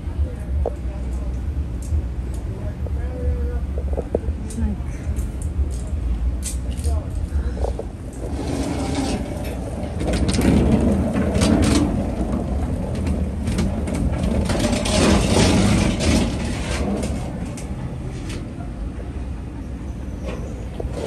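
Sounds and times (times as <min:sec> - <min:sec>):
street traffic rumble: 0:00.0 - 0:21.0
vehicles passing: 0:00.0 - 0:21.0.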